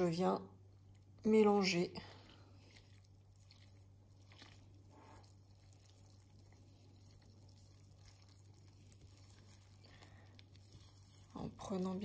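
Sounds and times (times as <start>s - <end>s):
low steady hum: 0.0s - 12.0s
wet squishing of dough: 0.0s - 12.0s.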